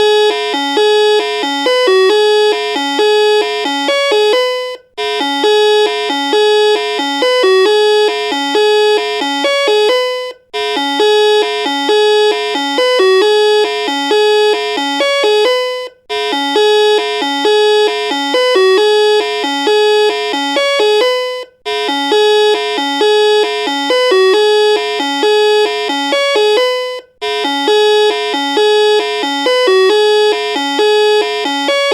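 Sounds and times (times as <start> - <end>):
electronic doorbell melody: 0.0 - 31.9.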